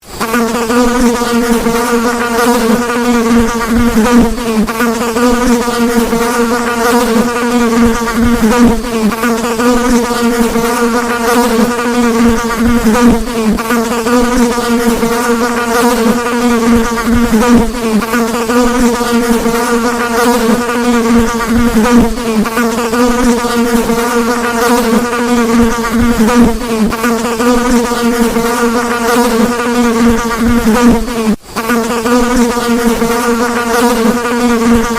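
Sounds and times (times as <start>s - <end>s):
housefly buzzing: 0.0s - 34.9s.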